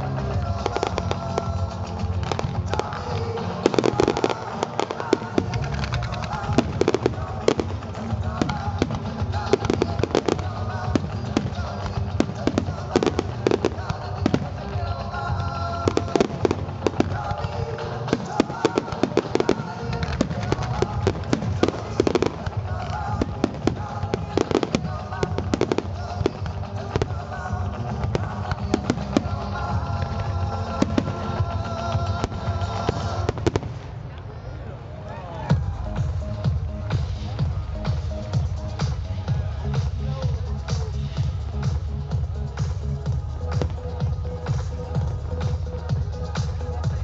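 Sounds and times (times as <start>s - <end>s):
fireworks bangs and crackles: 0.0s - 34.7s, 35.5s - 47.0s
music playing: 0.0s - 47.0s.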